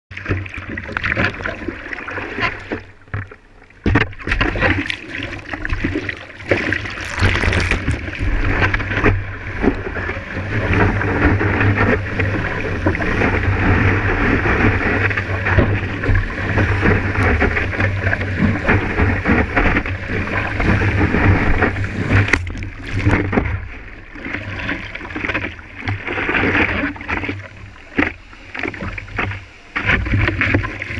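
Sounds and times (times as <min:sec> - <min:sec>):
water splashing against surfboard: 0:00.1 - 0:30.9
heavy choppy rumble: 0:03.1 - 0:30.9.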